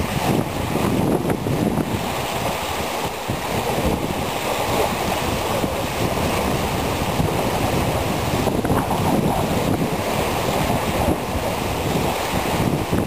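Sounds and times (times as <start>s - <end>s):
waves lapping on a sandy shore: 0.0s - 13.0s
wind buffeting the microphone: 0.0s - 13.0s.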